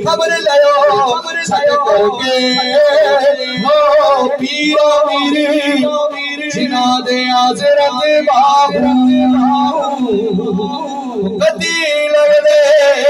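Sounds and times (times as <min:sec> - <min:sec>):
man singing through loudspeakers: 0:00.0 - 0:13.0.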